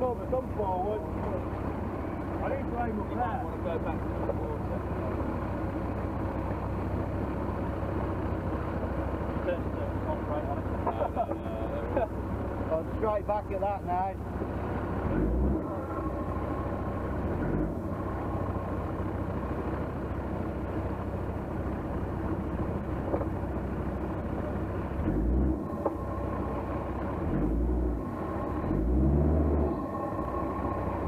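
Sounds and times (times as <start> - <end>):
off-road vehicle engine running: 0.0 - 31.0.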